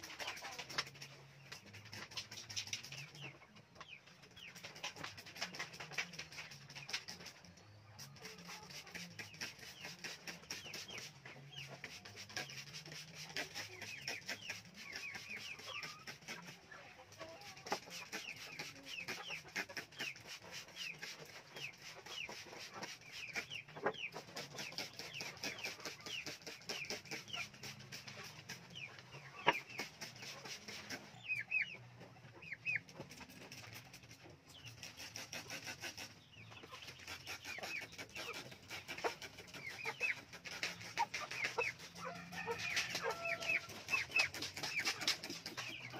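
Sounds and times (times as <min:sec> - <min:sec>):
hens clucking: 0:00.0 - 0:07.4, 0:08.0 - 0:45.9
chicks peeping: 0:00.0 - 0:45.9.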